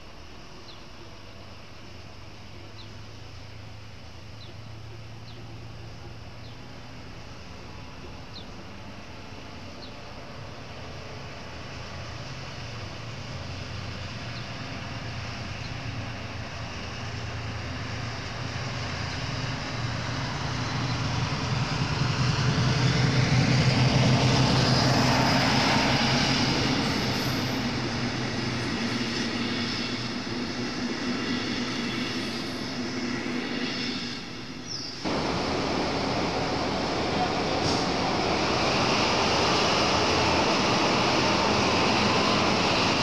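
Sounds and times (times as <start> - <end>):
diesel locomotive engine: 0.0 - 43.0
train coaches rolling by: 0.0 - 43.0.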